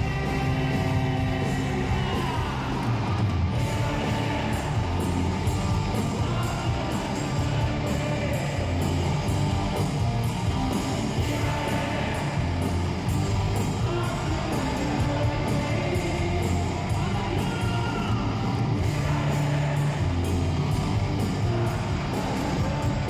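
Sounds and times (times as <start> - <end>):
distorted electric guitars: 0.0 - 23.0
drums with cymbal hits: 0.0 - 23.0.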